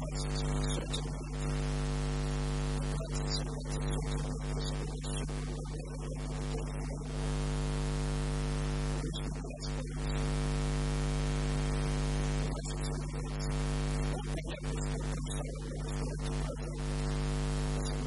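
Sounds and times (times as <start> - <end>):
electrical hum: 0.0 - 18.0
recording static hiss: 0.0 - 18.0.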